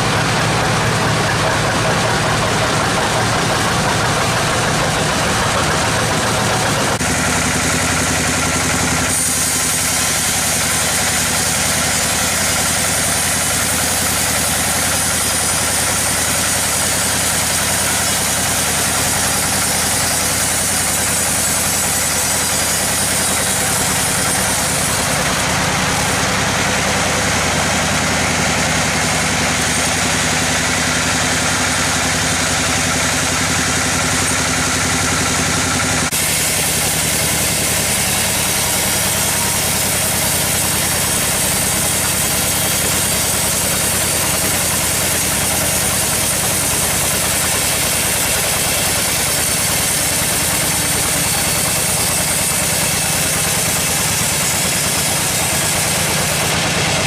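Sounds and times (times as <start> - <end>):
motor hum: 0.0 - 57.0
sawmill machinery running: 0.0 - 57.0.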